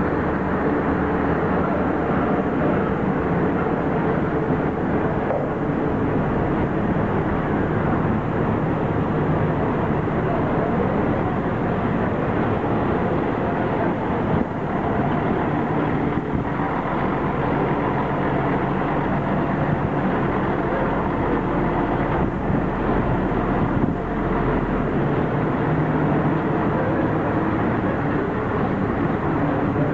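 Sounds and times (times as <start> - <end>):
bus diesel engine passing: 0.0 - 29.9.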